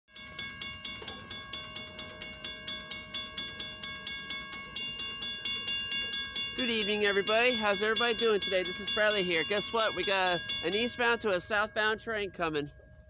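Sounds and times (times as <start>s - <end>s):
railroad crossing bell ringing: 0.1s - 13.0s.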